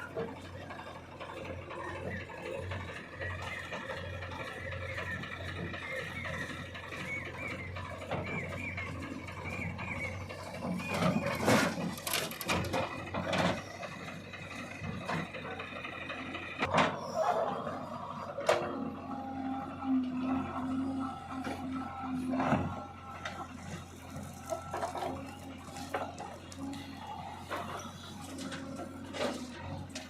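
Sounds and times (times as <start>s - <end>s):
low engine hum: 0.0s - 30.0s
squeal-like tone: 1.8s - 12.8s, 16.6s - 29.8s.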